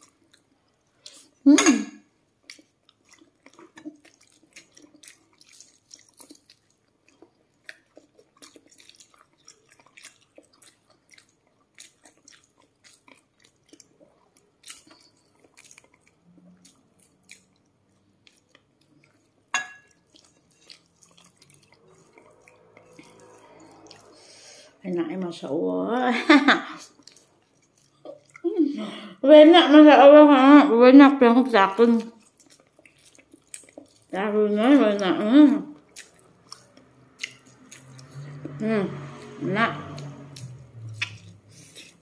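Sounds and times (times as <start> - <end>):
chewing crispy food: 0.0 - 1.5, 2.2 - 29.0, 31.2 - 42.0.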